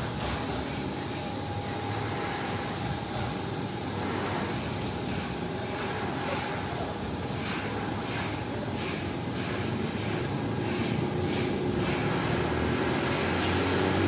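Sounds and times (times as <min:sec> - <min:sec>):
construction machinery drone: 0:00.0 - 0:14.0
thin constant whine: 0:00.0 - 0:14.0.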